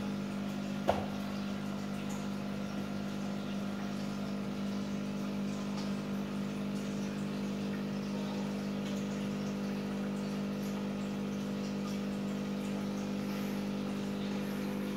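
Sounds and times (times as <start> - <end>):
aquarium pumps humming: 0.0 - 14.9.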